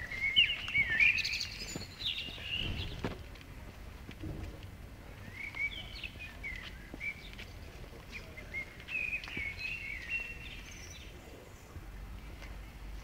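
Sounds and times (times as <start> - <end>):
songbird chirping and twittering: 0.0 - 3.5, 5.0 - 13.0.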